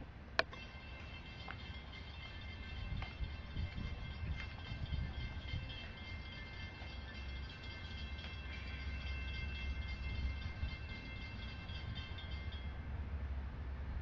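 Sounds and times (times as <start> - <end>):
faint high ringing tones: 0.4 - 13.0
freight train rumbling past: 0.6 - 14.0.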